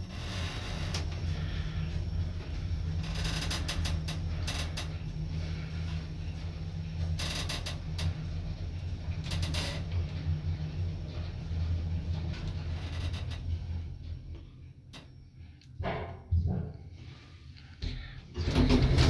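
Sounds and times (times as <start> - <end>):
elevator clicking and creaking: 0.0 - 15.2, 18.4 - 19.0
elevator low hum: 0.0 - 19.0.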